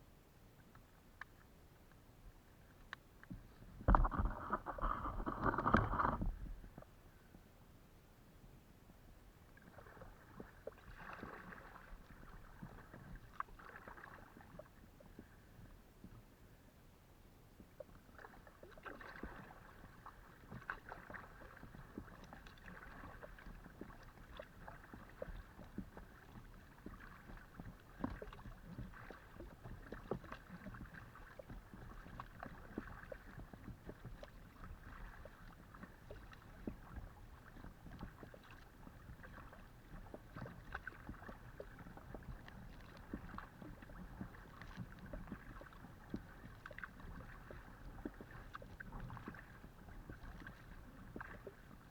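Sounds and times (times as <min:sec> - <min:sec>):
water lapping along hull: 0:00.0 - 0:51.9
paddle splashing and dripping: 0:03.3 - 0:06.8, 0:09.5 - 0:15.5, 0:17.7 - 0:51.9.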